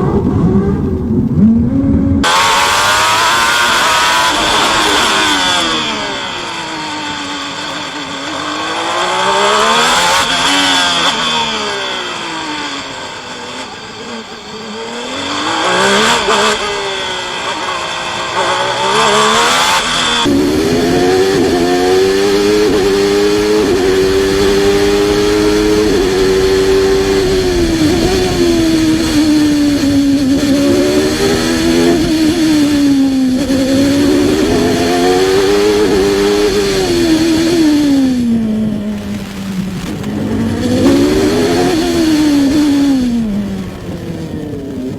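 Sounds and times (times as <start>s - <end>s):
racing car engine at high revs: 0.0s - 44.9s.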